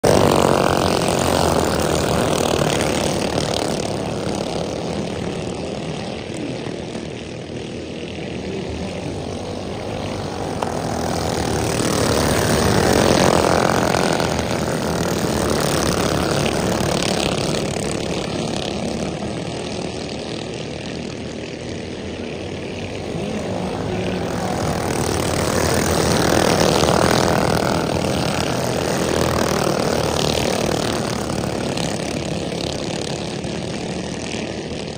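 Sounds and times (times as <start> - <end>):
go-kart engines racing: 0.0 - 34.9.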